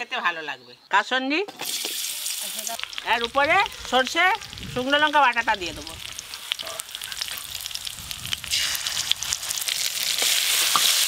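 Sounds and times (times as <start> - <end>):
spice paste sizzling in oil: 1.6 - 11.0.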